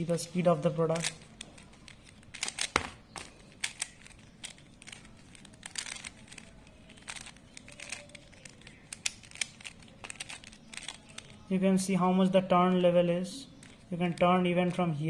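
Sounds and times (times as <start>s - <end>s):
plastic puzzle cube clicking: 0.0s - 11.5s, 13.6s - 14.8s.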